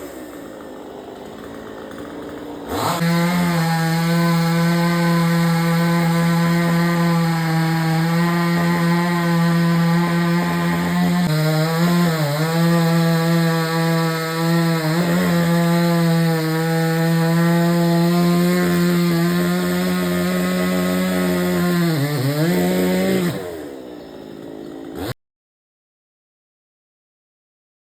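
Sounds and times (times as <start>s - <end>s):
chainsaw running: 0.0s - 25.2s.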